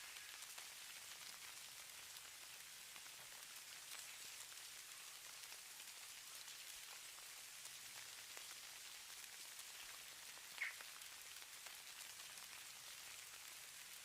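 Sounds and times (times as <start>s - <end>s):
snow patter: 0.0s - 14.0s.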